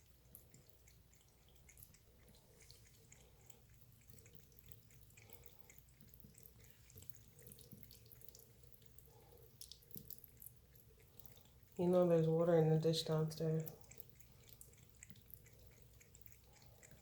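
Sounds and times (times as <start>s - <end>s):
small ticks: 0.0s - 11.8s, 13.6s - 17.0s
water trickling from sink tap: 0.0s - 12.4s, 13.1s - 17.0s.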